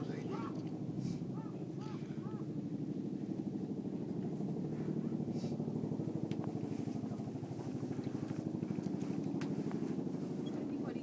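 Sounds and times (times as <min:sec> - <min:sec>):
engine humming with pulse: 0:00.0 - 0:11.0.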